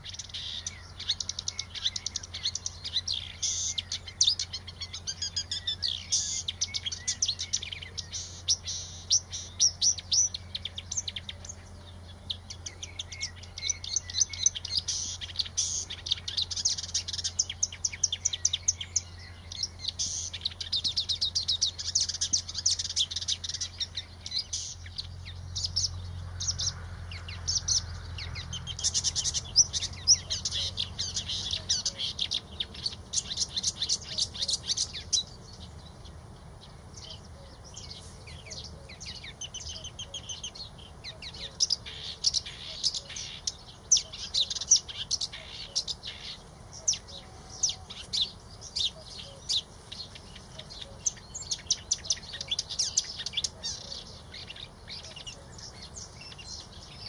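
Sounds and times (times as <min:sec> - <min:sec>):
warbler singing: 0:00.0 - 0:57.0.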